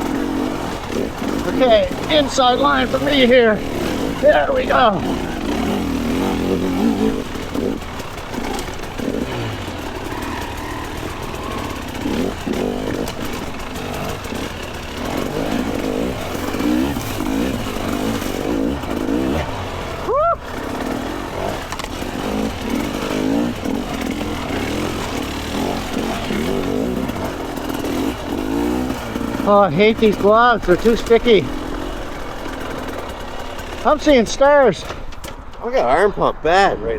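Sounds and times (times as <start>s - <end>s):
two-stroke dirt bike revving: 0.0s - 36.1s.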